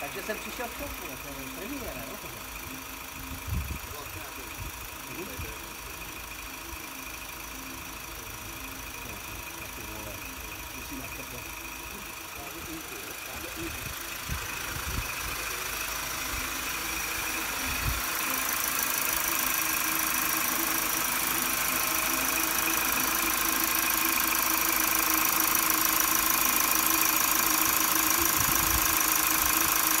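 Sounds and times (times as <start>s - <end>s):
diesel car engine running: 0.0s - 30.0s
high whine: 0.0s - 30.0s.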